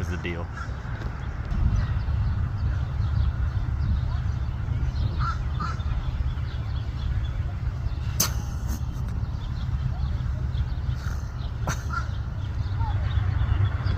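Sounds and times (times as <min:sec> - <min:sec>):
steady low rumble: 0:00.0 - 0:13.9
faint bird calls: 0:00.4 - 0:13.9.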